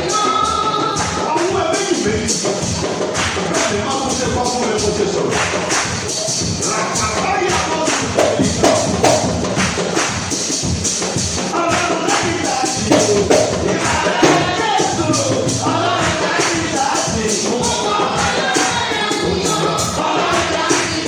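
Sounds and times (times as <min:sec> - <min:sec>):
fast percussion beat: 0:00.0 - 0:21.0
voices singing worship music: 0:00.0 - 0:21.0.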